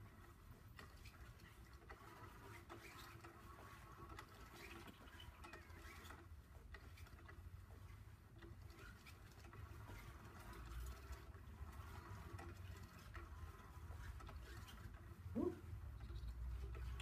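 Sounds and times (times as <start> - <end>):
motorized toy whirring and ticking: 0.0 - 17.0.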